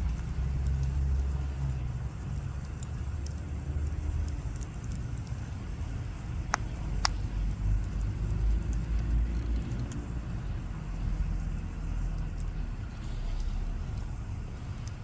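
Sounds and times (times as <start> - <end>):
campfire crackling: 0.0 - 15.0
fire popping: 0.0 - 15.0.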